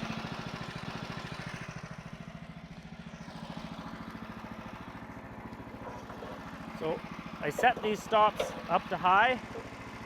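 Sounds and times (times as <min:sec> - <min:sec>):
sawmill engine idling: 0:00.0 - 0:10.0.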